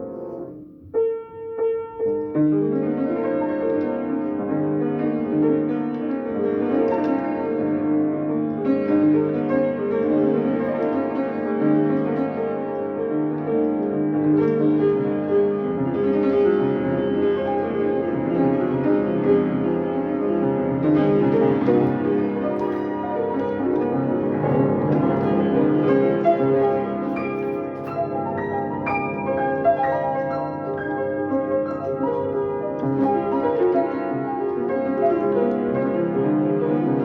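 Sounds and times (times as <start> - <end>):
solo piano chords and melody: 0.0 - 37.0.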